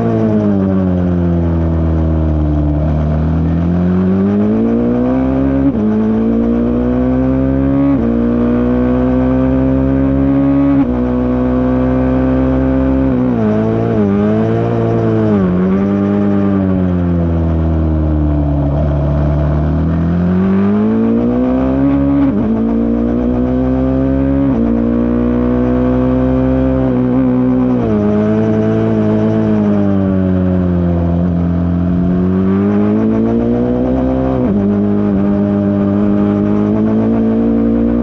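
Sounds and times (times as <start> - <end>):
racing motorcycle engine: 0.0 - 38.0.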